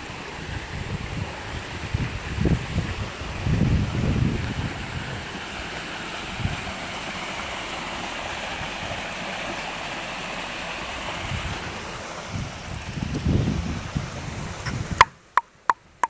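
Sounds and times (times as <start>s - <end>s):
water rushing in a concrete ditch: 0.0s - 16.0s.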